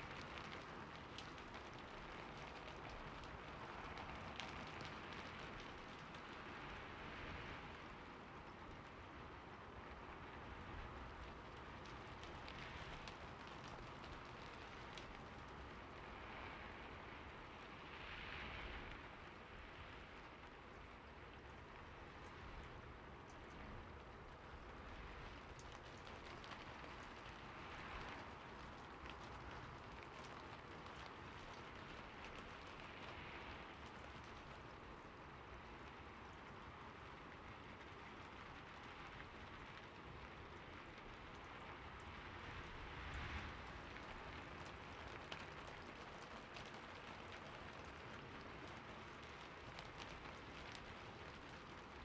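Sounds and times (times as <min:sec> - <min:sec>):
raindrops ticking: 0:00.0 - 0:07.0, 0:07.6 - 0:16.6, 0:20.3 - 0:52.0
rain hissing on a roof: 0:00.0 - 0:52.0.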